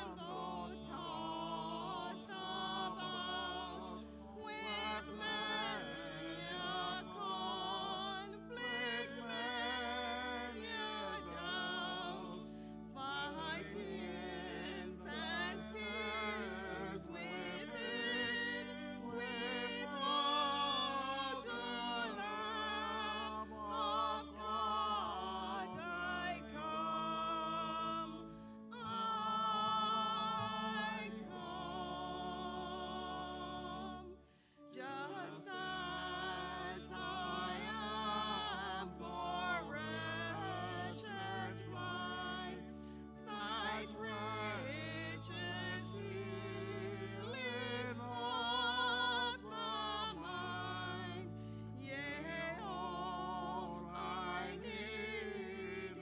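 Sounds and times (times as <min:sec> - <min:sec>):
organ chords: 0:00.0 - 0:56.0
person singing hymn with vibrato: 0:00.0 - 0:56.0.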